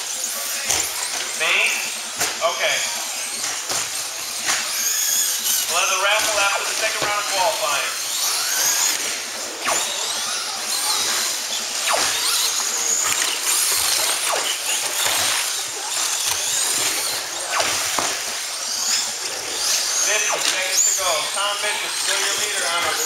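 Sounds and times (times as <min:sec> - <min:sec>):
rc car motors whining: 0:00.0 - 0:23.0.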